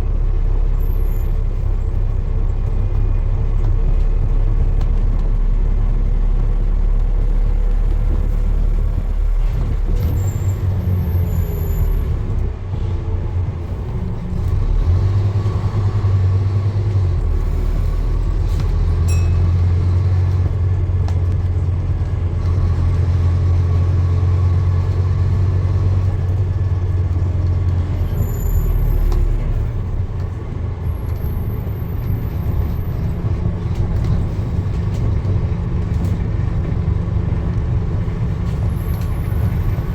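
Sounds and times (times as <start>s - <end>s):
motor vehicle rumbling: 0.0s - 39.9s.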